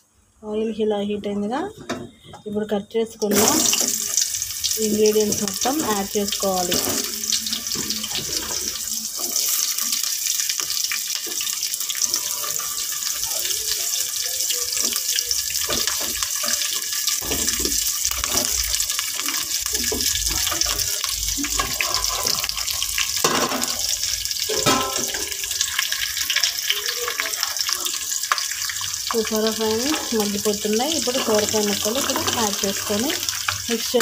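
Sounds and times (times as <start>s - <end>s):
food sizzling in hot oil: 3.2s - 34.0s.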